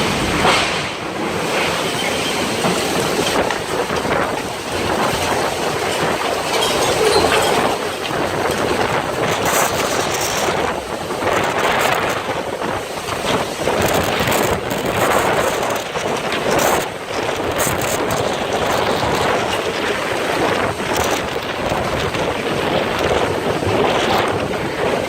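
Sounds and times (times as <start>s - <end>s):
storm wind gusting: 0.0s - 25.0s
wind buffets crackling: 0.0s - 25.0s.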